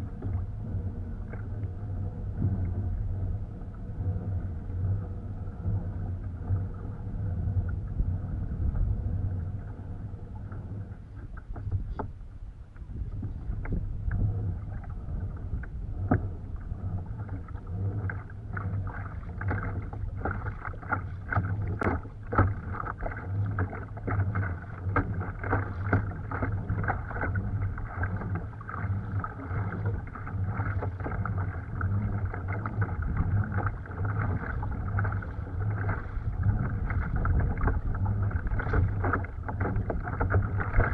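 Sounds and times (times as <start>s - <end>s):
steady low rumble: 0.0s - 40.9s
water splashing against hull: 0.0s - 40.9s.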